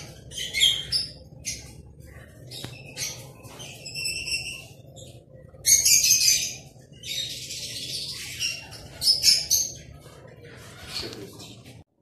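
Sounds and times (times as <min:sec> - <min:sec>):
lovebirds chirping and screeching: 0:00.0 - 0:11.9.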